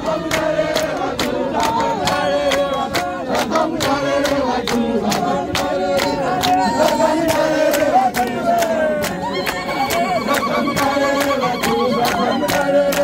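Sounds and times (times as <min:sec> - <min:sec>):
congregation singing a hymn: 0:00.0 - 0:13.0
hand claps: 0:00.0 - 0:13.0.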